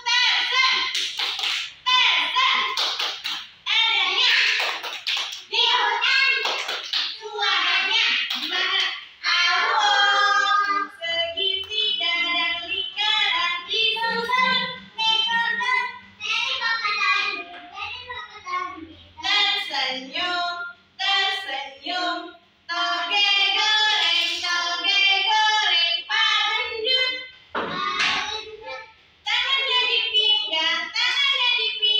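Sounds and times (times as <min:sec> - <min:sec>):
young children singing: 0:03.7 - 0:31.9.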